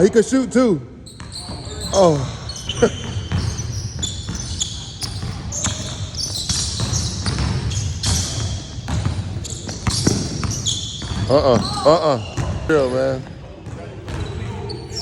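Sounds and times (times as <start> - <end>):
sneakers squeaking on floor: 1.0 - 15.0
basketball bouncing: 1.2 - 12.7, 13.6 - 14.5.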